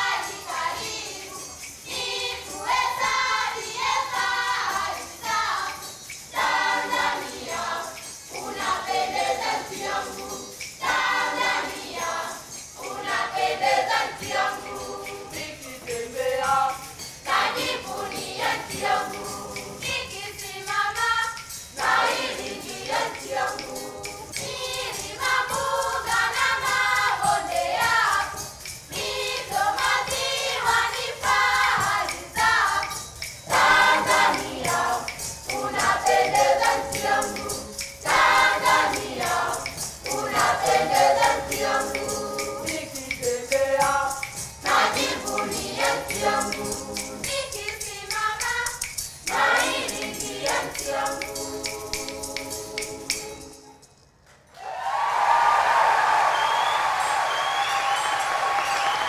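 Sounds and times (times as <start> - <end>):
steady rhythmic beat: 0.0 - 53.6
children's choir singing: 0.0 - 53.8, 54.6 - 59.0.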